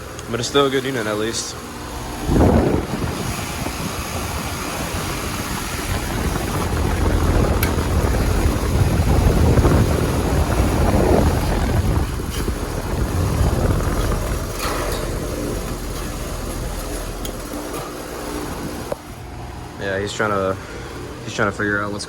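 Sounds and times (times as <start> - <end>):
air conditioner condenser droning: 0.0 - 22.0.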